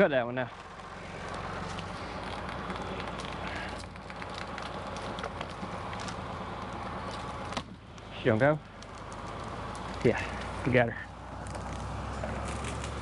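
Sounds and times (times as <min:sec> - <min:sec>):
engine running at low speed: 0:00.0 - 0:13.0
crackling and snapping: 0:00.5 - 0:13.0.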